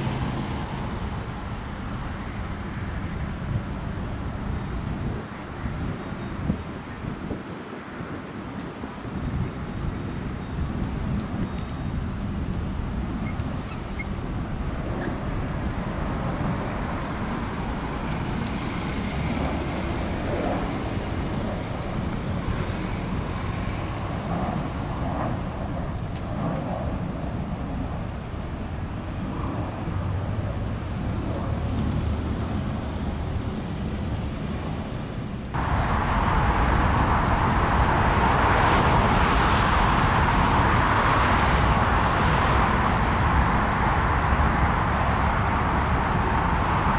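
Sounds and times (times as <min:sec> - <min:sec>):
jet airliner rumble and hiss: 0:00.0 - 0:46.9
wind on microphone: 0:00.0 - 0:46.9.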